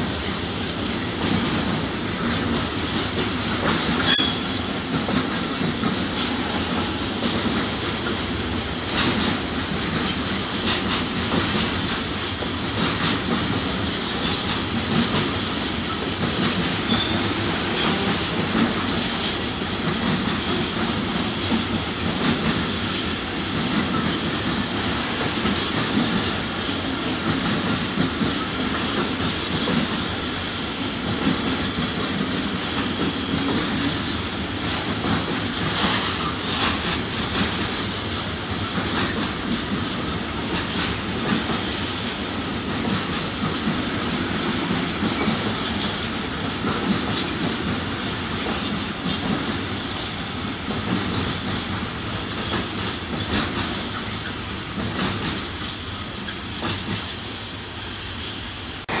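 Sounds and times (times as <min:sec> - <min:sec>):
train wheels rumbling on rails: 0:00.0 - 0:59.0
wheels clattering over rail joints: 0:01.2 - 0:30.2, 0:31.0 - 0:57.6.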